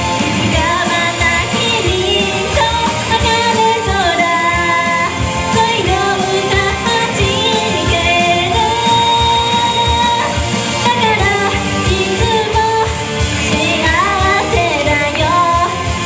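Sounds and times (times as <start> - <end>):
pop backing track with drum beat: 0.0 - 16.0
woman singing into a microphone: 0.0 - 16.0.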